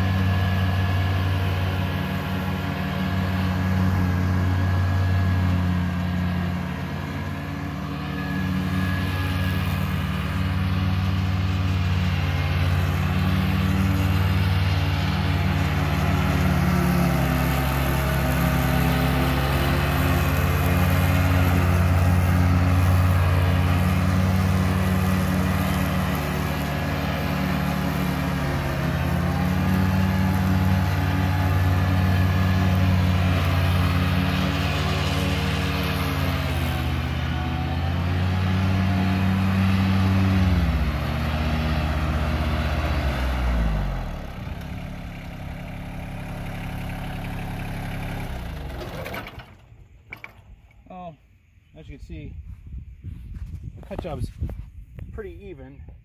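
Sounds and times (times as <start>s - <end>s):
mower deck cutting grass: 0.0s - 50.8s
tractor diesel engine running: 0.0s - 51.1s.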